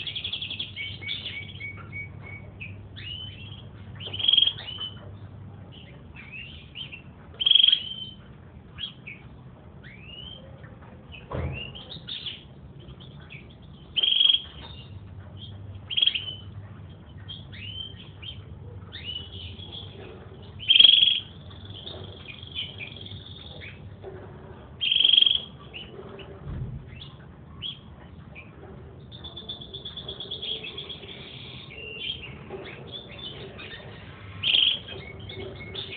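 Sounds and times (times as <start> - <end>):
canary singing: 0.0 - 35.9.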